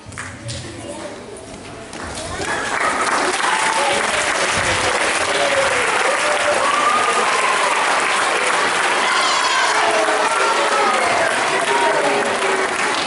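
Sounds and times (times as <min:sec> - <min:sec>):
audience applauding and cheering: 0:02.1 - 0:13.0.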